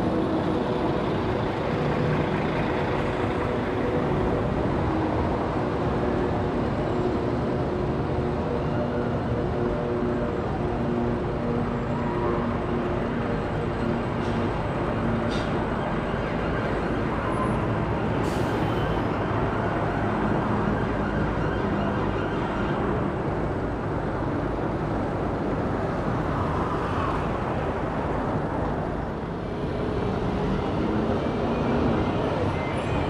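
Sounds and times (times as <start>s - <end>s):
road traffic rumbling: 0.0s - 33.0s.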